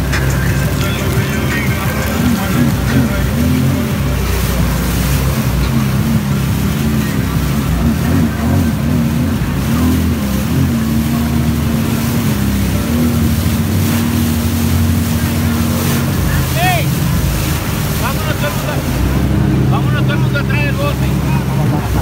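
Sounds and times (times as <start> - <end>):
jet ski engines: 0.0 - 22.0
rushing water: 0.0 - 22.0.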